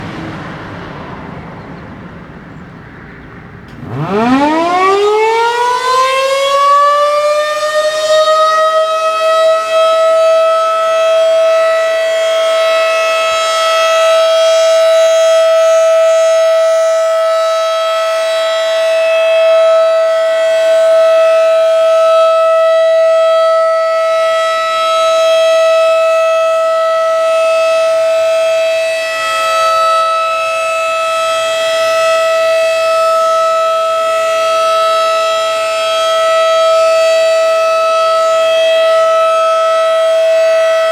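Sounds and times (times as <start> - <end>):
outdoor warning siren winding up: 3.7 - 40.9.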